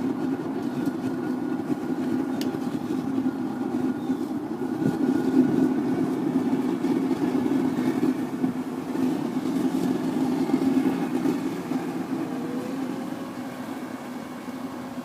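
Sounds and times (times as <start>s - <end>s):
propane burner rushing: 0.0s - 15.0s.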